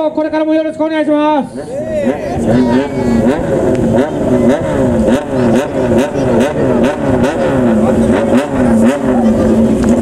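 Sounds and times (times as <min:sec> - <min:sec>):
motorcycle engine revving: 0:01.4 - 0:10.0.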